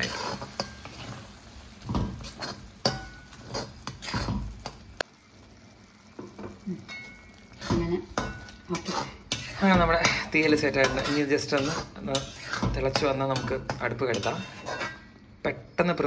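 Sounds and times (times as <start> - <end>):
stirring in a pan: 0.0 - 15.5.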